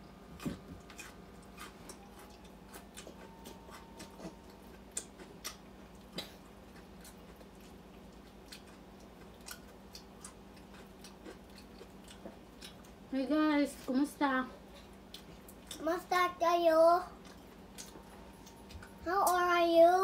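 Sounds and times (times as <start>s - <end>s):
faint steady hum: 0.0s - 20.0s
person chewing: 0.3s - 13.1s, 14.6s - 15.9s, 17.2s - 19.5s.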